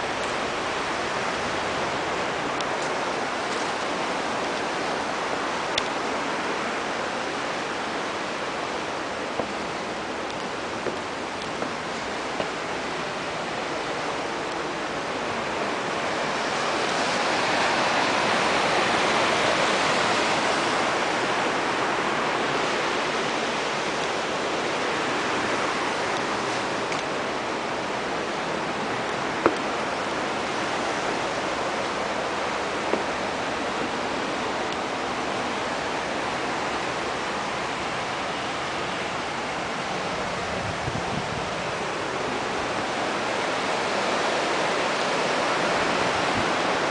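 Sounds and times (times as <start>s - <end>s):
river rapids rushing: 0.0s - 46.9s.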